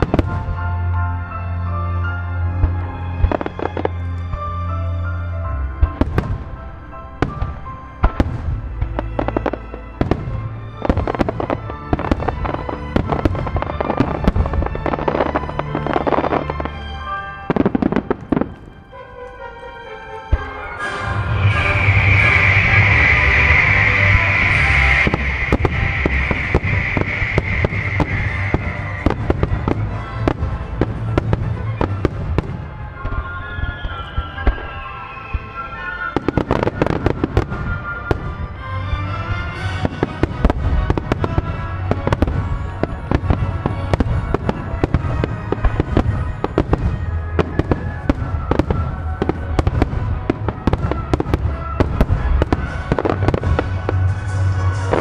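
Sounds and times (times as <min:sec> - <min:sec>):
fireworks bursting and crackling: 0:00.0 - 0:19.7, 0:20.3 - 0:55.0
loud music: 0:00.0 - 0:55.0.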